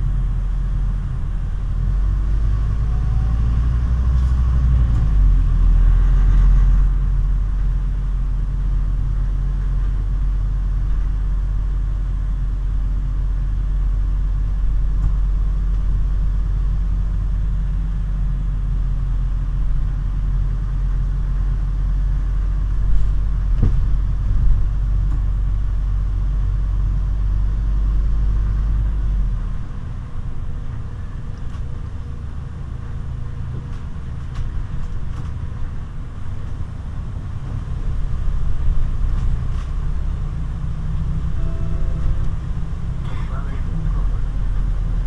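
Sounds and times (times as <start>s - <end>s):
bus engine and road drone: 0.0s - 45.0s.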